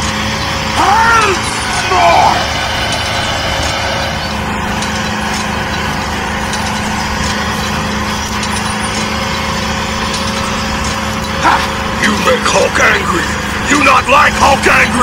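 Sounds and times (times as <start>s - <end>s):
small motor humming: 0.0s - 13.8s.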